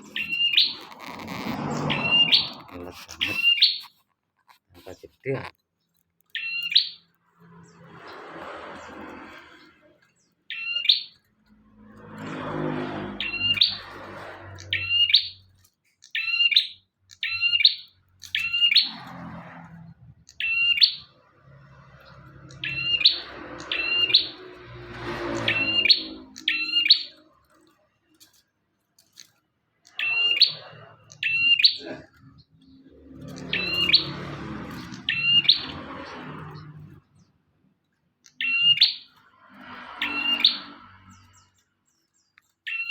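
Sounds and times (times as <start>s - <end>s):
bird chirping: 0.0s - 8.3s, 9.6s - 11.3s, 13.0s - 19.4s, 20.0s - 28.2s, 29.1s - 42.9s.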